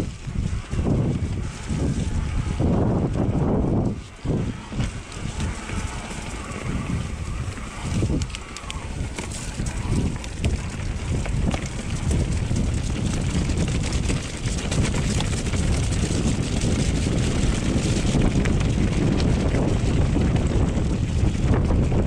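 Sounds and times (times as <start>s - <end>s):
bike rattling on rough trail: 0.0s - 22.0s
wind buffeting microphone: 0.0s - 22.0s.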